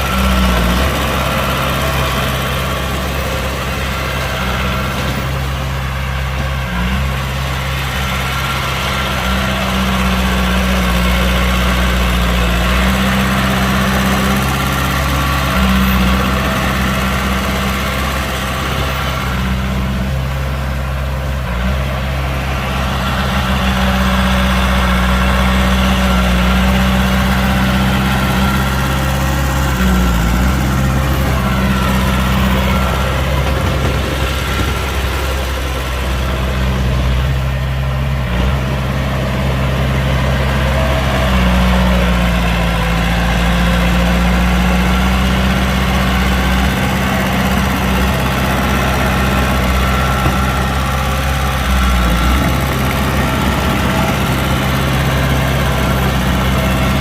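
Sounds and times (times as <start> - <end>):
heavy diesel engine idling: 0.0 - 57.0.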